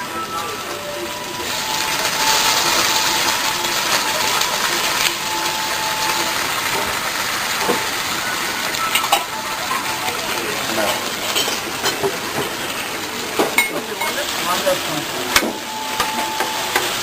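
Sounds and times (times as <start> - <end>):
sauce sizzling on a griddle: 0.2 - 17.0.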